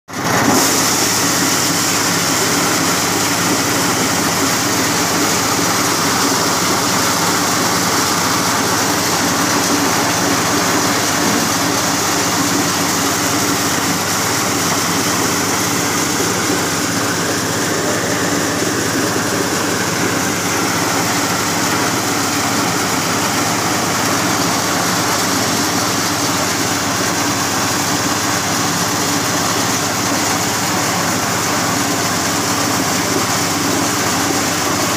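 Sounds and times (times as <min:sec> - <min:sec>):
engine drone: 0:00.2 - 0:34.9
kernels pouring: 0:00.4 - 0:32.0.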